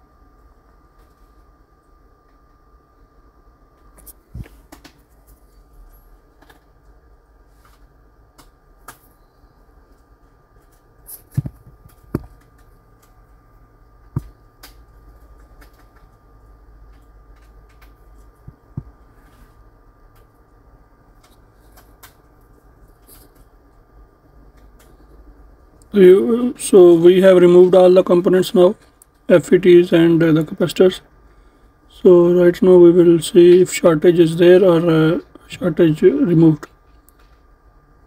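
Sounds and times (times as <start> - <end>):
hot air gun fan humming: 0.0 - 37.2
faint high whine: 0.0 - 38.0.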